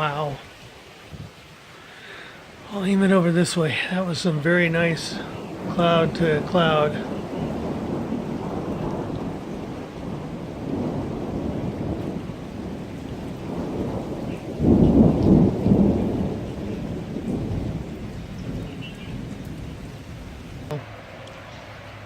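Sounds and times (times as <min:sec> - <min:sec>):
heavy rain: 0:00.0 - 0:22.0
thunder rumbling: 0:02.6 - 0:22.0.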